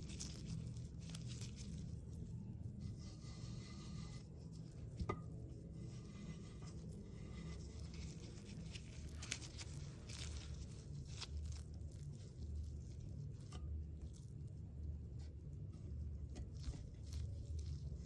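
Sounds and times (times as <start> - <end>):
paint squishing and scraping: 0.0 - 18.0.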